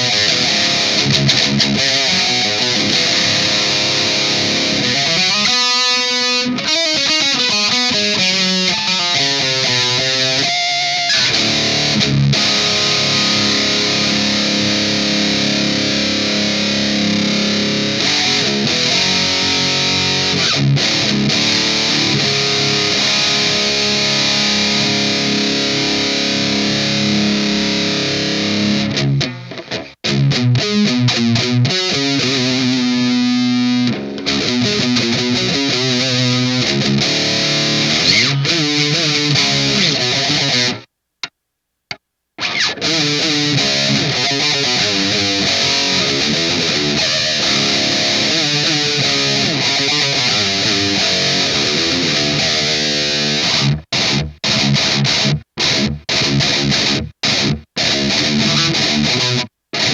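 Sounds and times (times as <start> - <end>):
overdriven electric guitar riffing: 0.0 - 40.9, 42.4 - 59.9.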